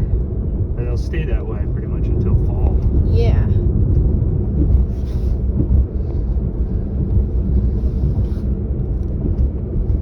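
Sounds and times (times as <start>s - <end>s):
car driving heard inside cabin: 0.0s - 10.0s.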